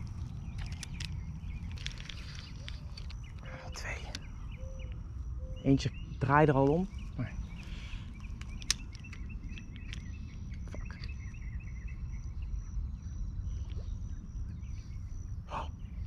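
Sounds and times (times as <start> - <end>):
high insect trill: 0.0 - 16.0
small birds chirping: 0.0 - 16.0
wind rumbling on microphone: 0.0 - 16.0.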